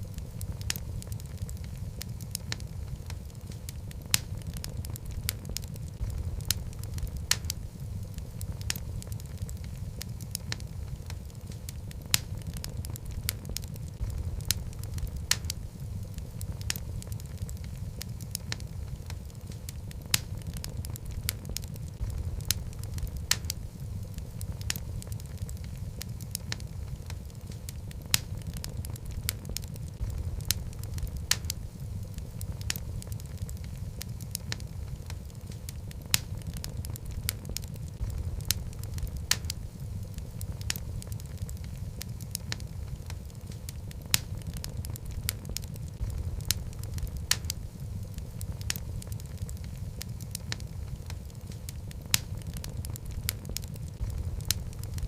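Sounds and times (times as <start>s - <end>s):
wood logs burning in fireplace: 0.0s - 55.0s.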